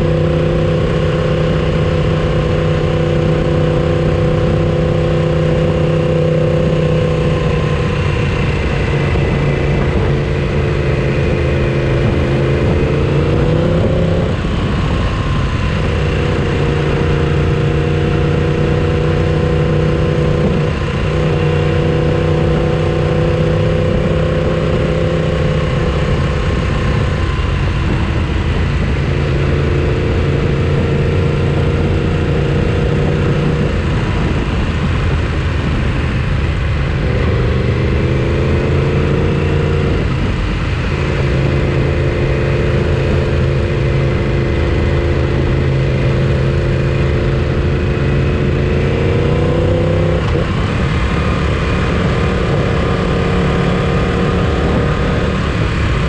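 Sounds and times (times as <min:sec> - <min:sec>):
motorcycle engine running: 0:00.0 - 0:56.0
rushing noise: 0:00.0 - 0:56.0.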